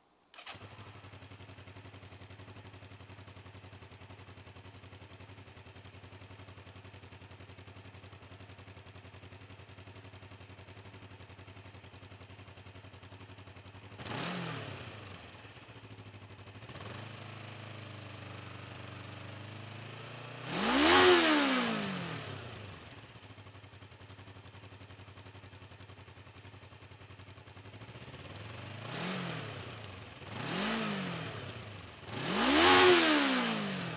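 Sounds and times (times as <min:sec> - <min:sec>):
motorcycle engine idling and revving: 0:00.3 - 0:33.9.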